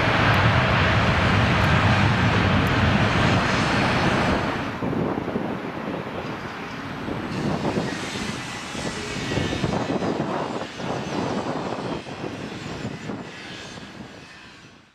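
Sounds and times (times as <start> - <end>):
airliner engine rumble: 0.0 - 14.2.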